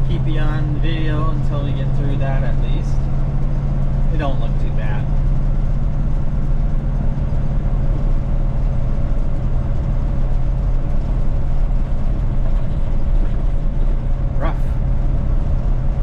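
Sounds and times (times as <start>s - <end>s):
faint whine: 0.0s - 16.0s
pickup truck engine drone: 0.0s - 16.0s
tires rumbling on gravel road: 0.0s - 16.0s.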